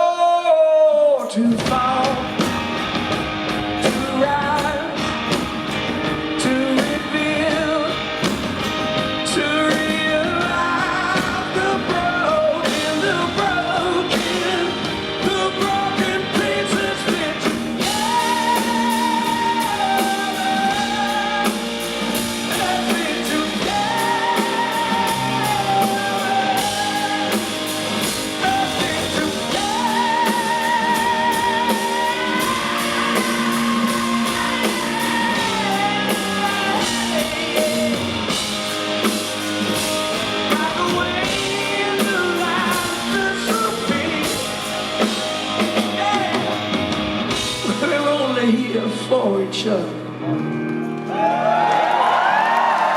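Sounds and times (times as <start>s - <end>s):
wordless singing with vibrato: 0.0s - 50.5s
drums: 0.0s - 52.9s
electric guitar: 1.3s - 52.9s.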